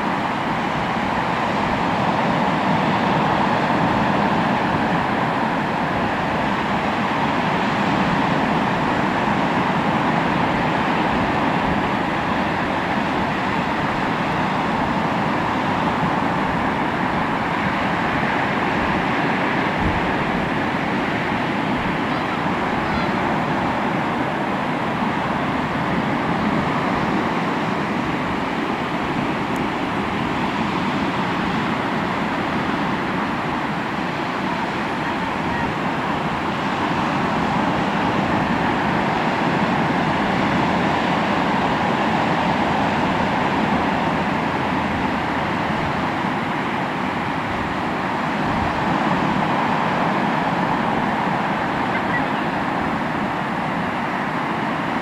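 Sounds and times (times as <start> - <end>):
sea waves rushing on shore: 0.0 - 55.0.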